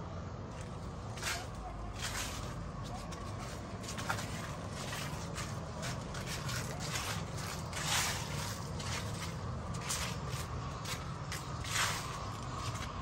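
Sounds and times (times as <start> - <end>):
footsteps walking: 0.5 - 13.0.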